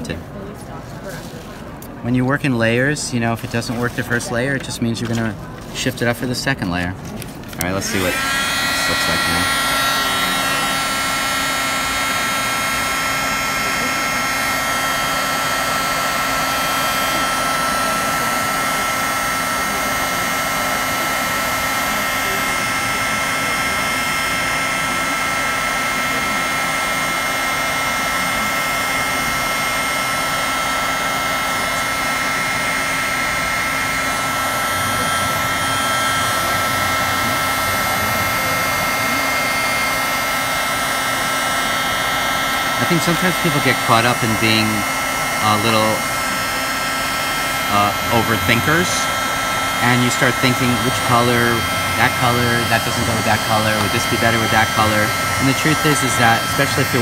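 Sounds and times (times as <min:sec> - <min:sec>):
heat gun blowing air: 0:07.6 - 0:57.0.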